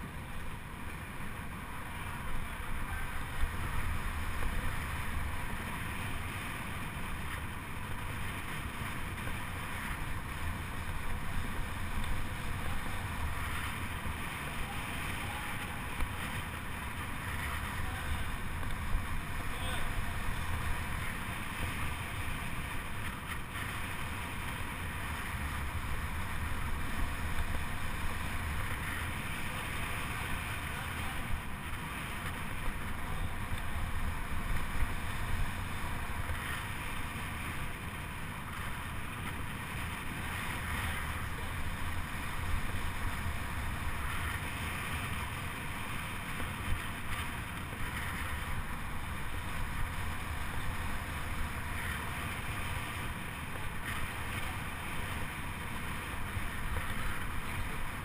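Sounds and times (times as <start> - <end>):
constant low rumble: 0.0 - 58.0.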